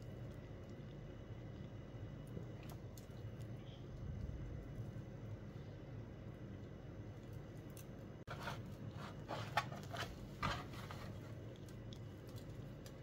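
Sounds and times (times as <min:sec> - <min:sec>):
bread rolls crackling and rustling: 0:00.0 - 0:13.0
faint low hum: 0:00.0 - 0:13.0.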